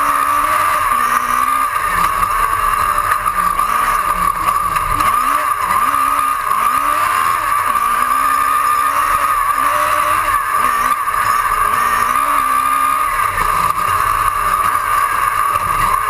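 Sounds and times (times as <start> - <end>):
race car engine revving: 0.0 - 16.0
wind and tyre noise: 0.0 - 16.0.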